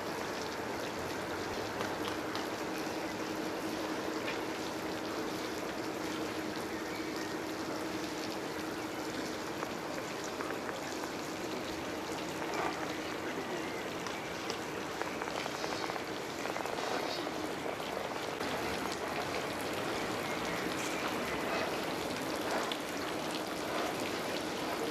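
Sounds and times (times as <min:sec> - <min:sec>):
running water rushing: 0:00.0 - 0:24.9.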